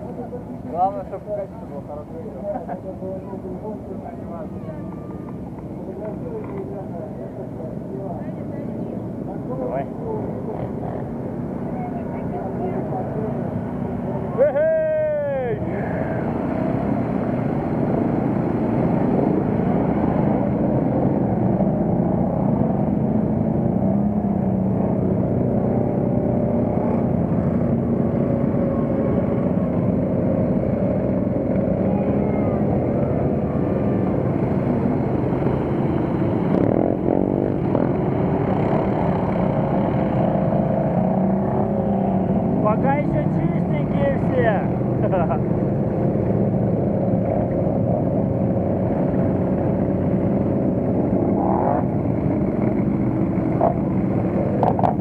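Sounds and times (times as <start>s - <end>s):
quad bike engines revving: 2.2s - 55.0s.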